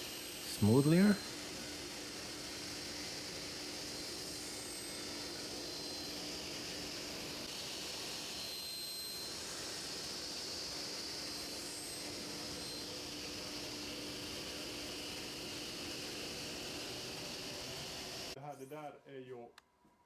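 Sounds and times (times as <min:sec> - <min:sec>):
power tool whooshing hiss: 0:00.0 - 0:18.4.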